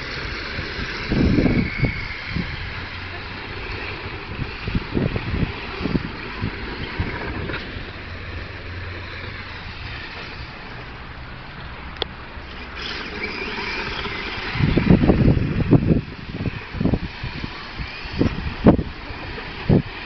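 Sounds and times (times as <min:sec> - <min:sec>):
remote-control car whirring: 0:00.0 - 0:20.0
wind buffeting microphone: 0:00.0 - 0:20.0.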